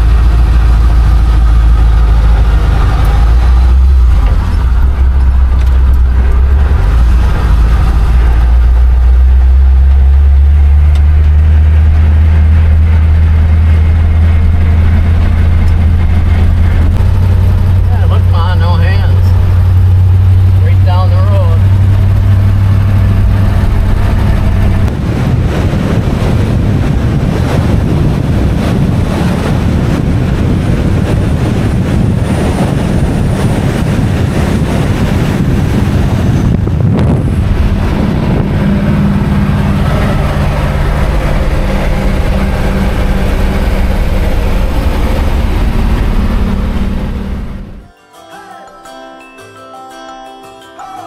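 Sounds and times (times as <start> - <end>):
wind noise: 0.0 - 47.8
truck engine rumbling: 0.0 - 48.2.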